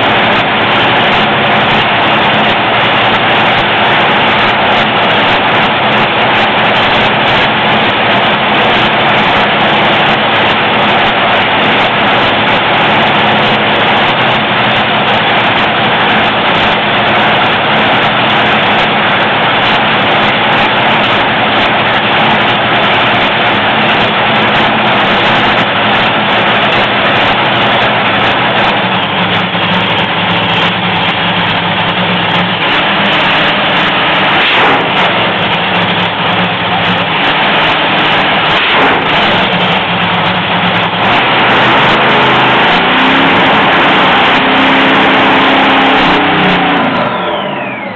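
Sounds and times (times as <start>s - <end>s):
dragster engine running loud: 0.0s - 47.9s.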